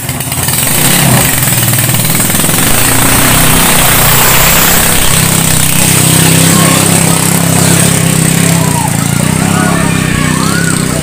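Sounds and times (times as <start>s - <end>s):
racing boat engine at full throttle: 0.0s - 11.0s.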